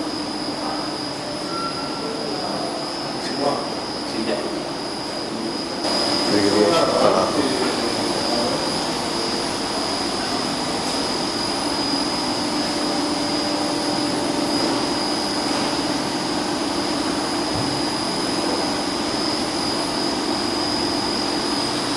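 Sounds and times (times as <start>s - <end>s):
heat pump rushing noise: 0.0s - 21.9s
thin high whine: 0.0s - 21.9s.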